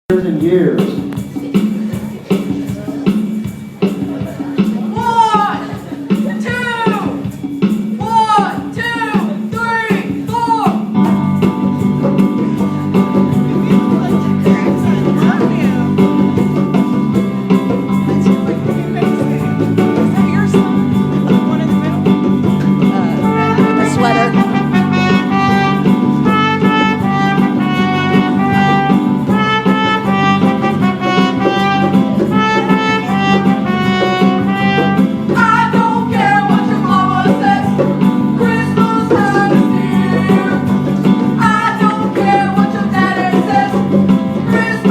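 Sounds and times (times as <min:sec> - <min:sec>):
band playing christmas song: 0:00.1 - 0:44.9.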